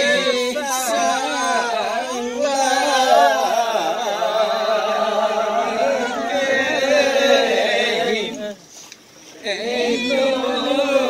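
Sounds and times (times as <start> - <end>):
group singing unaccompanied: 0.0 - 8.6, 9.3 - 11.0.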